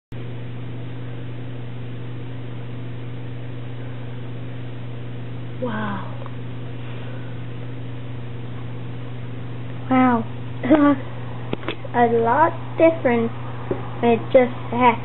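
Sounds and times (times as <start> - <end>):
low electrical hum: 0.1 - 15.0.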